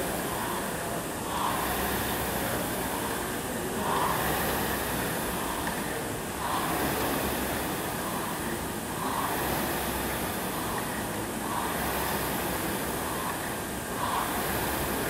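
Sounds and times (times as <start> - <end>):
rowing machine fan whooshing: 0.0 - 15.0.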